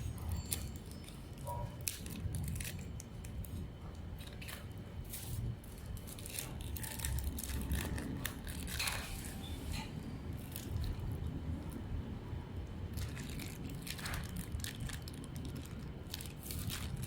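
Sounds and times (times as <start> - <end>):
handling clicks and crinkling: 0.0 - 11.8, 12.9 - 17.0
steady low rumble: 1.8 - 17.0.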